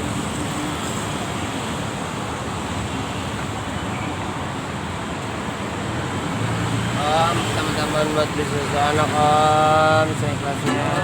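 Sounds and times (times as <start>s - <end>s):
vehicle rumble and hiss: 0.0s - 11.0s.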